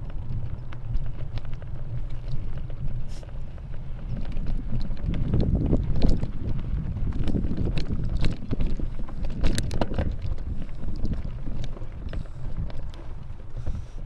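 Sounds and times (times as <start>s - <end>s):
bicycle clicks and rattles: 0.0s - 14.0s
wind rumbling on microphone: 0.0s - 14.0s.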